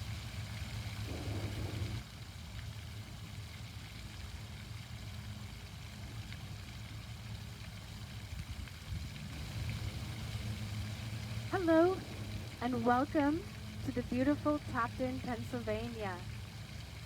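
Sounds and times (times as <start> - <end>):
fountain water hissing: 0.0 - 17.0
low engine-like drone: 0.0 - 17.0.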